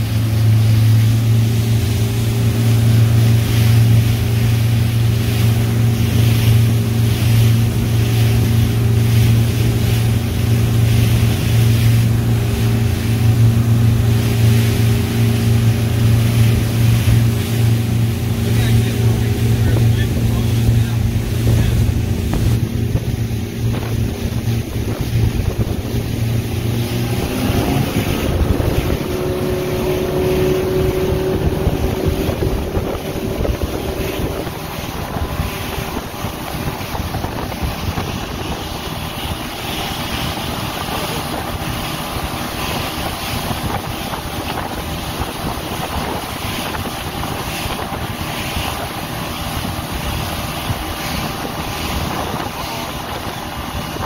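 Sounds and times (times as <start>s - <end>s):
outboard motor running: 0.0s - 54.0s
water spraying: 0.0s - 54.0s
wind on microphone: 0.0s - 54.0s.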